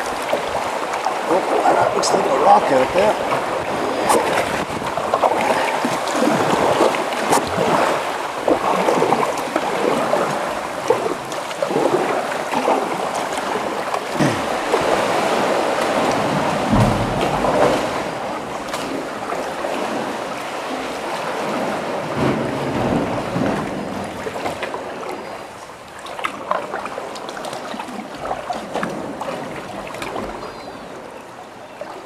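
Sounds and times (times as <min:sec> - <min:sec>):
paddle strokes splashing water: 0:00.0 - 0:32.0
water lapping: 0:00.0 - 0:32.0.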